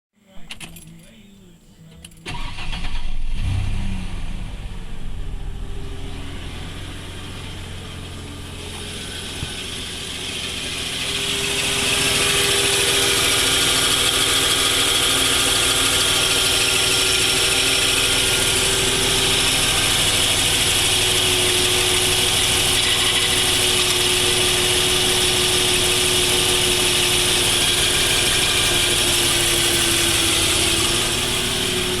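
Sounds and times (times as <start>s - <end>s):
truck engine running: 0.4s - 32.0s
hissing whine: 4.0s - 32.0s.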